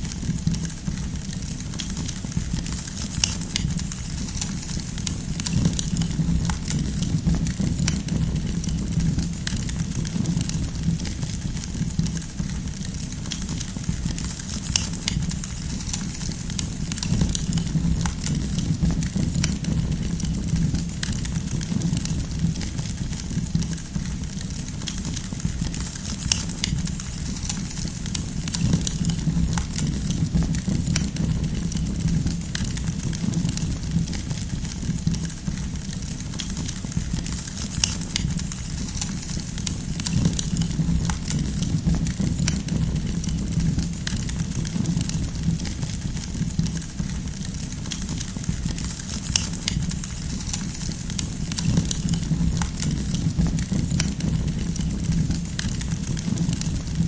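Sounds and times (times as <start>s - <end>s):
campfire rumble: 0.0s - 57.0s
firewood crackling and popping: 0.0s - 57.0s.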